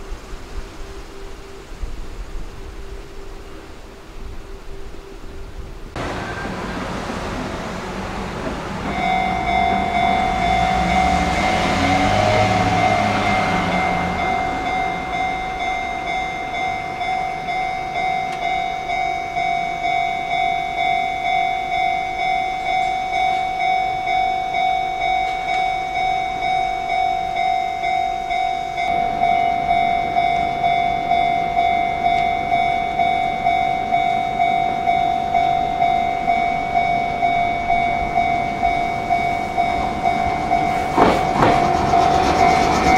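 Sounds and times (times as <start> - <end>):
level-crossing warning bell: 0.0 - 42.9
train passing: 0.0 - 42.9.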